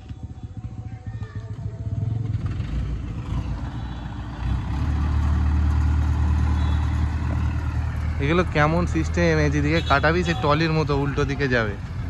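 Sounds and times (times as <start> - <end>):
heavy vehicle engine running: 0.0 - 9.7.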